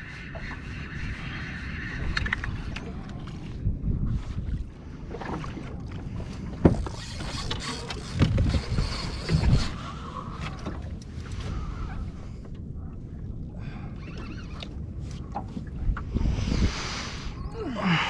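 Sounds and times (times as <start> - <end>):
water moving around boat: 0.0 - 18.0
wind on microphone: 0.0 - 18.0.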